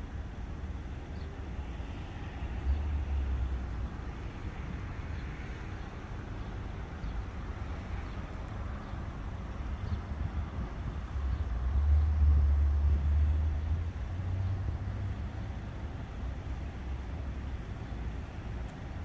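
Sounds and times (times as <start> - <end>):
distant road traffic: 0.0 - 19.0
wind: 0.0 - 19.0.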